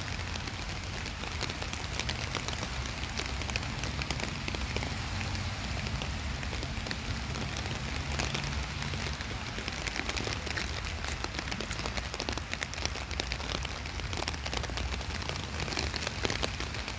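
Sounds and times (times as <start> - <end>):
rain pattering on paving: 0.0 - 16.9.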